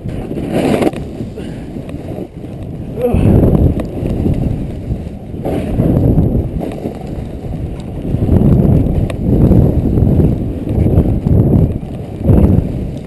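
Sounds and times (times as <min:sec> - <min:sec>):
snowboard scraping through snow: 0:00.0 - 0:13.0.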